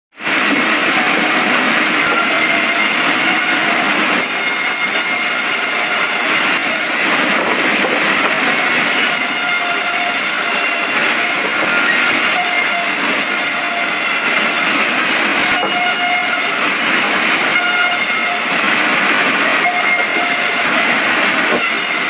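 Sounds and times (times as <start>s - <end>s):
band saw cutting log: 0.2s - 22.0s.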